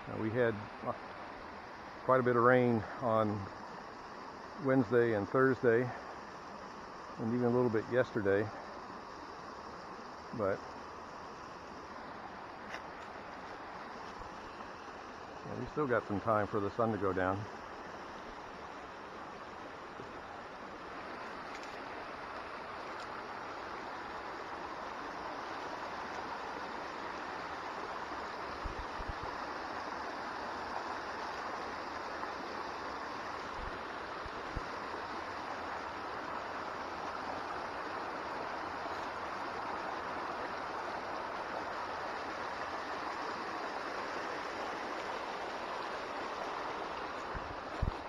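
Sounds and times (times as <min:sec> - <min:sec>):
mountain stream rushing: 0:00.0 - 0:48.0.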